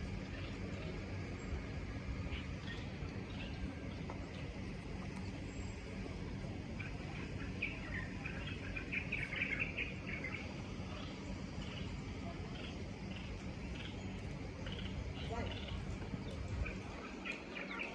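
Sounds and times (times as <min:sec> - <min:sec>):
low background rumble: 0:00.0 - 0:17.9
small birds chirping: 0:00.2 - 0:06.0, 0:06.8 - 0:17.9.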